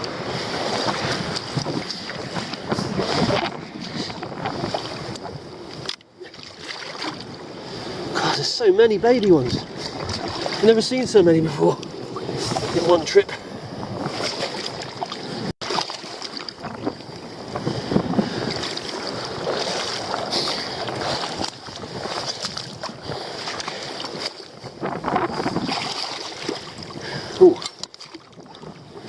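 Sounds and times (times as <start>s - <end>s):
water lapping among rocks: 0.0s - 5.4s, 6.2s - 8.1s, 9.1s - 11.3s, 13.8s - 29.0s
wind buffeting microphone: 0.0s - 29.0s.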